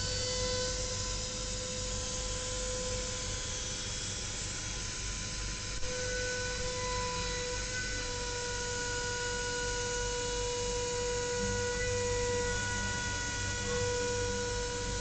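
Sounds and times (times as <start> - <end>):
milling spindle whine: 0.0 - 15.0.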